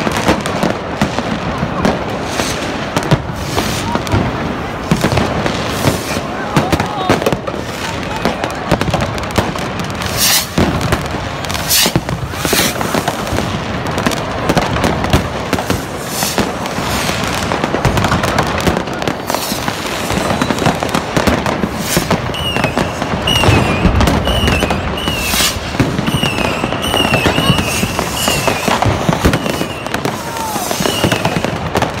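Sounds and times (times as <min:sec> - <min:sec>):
fireworks banging and crackling: 0:00.0 - 0:32.0.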